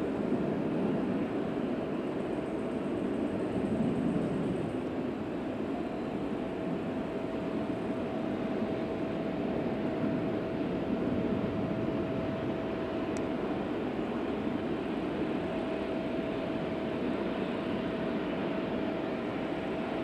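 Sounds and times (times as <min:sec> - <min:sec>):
jet engines running at low power: 0:00.0 - 0:20.0.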